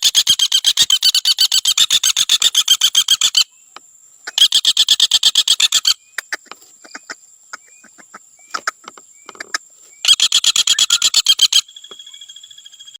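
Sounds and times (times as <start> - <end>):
woodpecker rattling trill: 0.0 - 3.5, 4.3 - 12.9.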